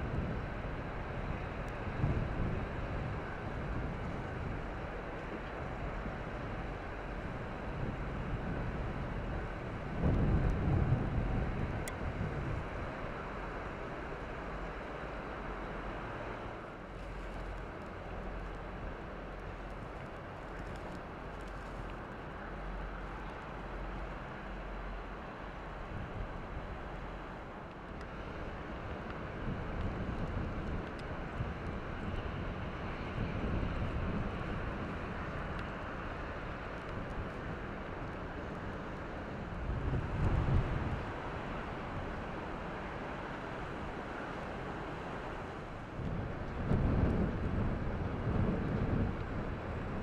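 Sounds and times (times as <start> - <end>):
wind rumbling on microphone: 0.0 - 50.0.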